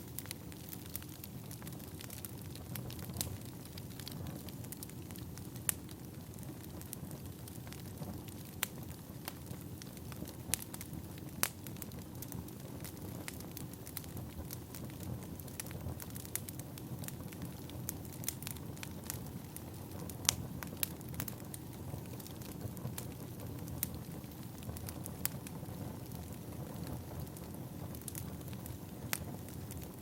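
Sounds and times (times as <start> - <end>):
firewood burning with crackles: 0.0 - 30.0.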